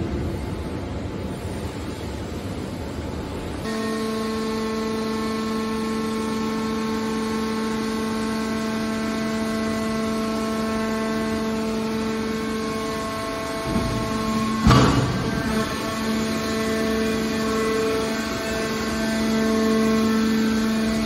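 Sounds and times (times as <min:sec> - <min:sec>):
hydraulic power unit humming: 0:02.5 - 0:21.0.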